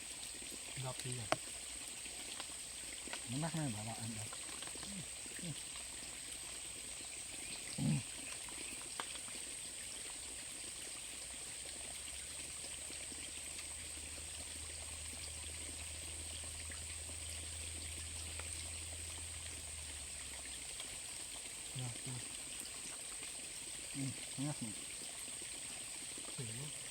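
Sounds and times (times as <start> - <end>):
running and dripping water: 0.0 - 26.9.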